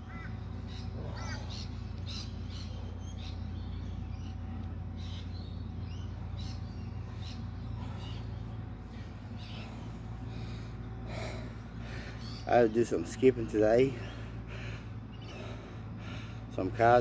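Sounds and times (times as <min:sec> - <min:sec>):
birds chirping: 0:00.0 - 0:17.0
low background rumble: 0:00.0 - 0:17.0.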